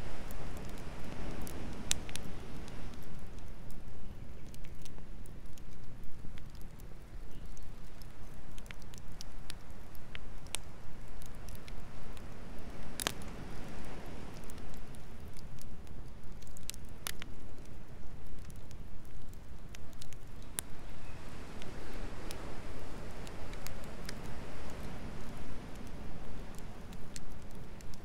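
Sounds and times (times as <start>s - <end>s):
campfire crackling: 0.0s - 28.0s
fire popping: 0.0s - 28.0s.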